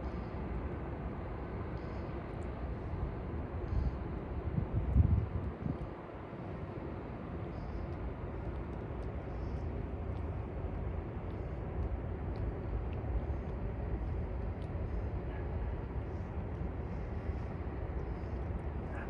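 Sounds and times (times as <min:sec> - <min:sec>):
city ambience low rumble: 0:00.0 - 0:19.0.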